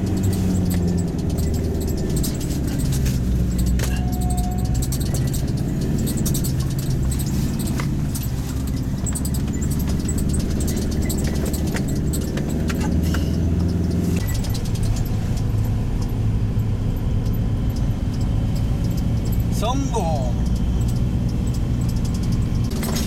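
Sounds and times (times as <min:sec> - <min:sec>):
car engine running inside cabin: 0:00.0 - 0:23.0
small clicks and rattles: 0:00.0 - 0:23.0.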